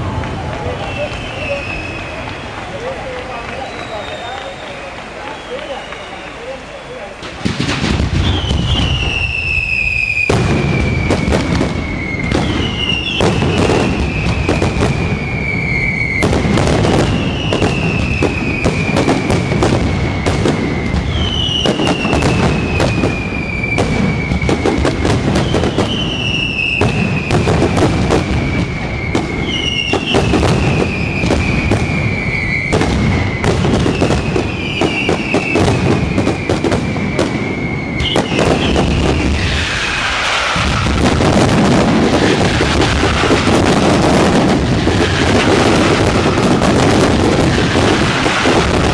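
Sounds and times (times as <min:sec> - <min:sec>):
falling firework whistle: 0:00.0 - 0:48.9
fireworks crackling and bangs: 0:00.0 - 0:48.9.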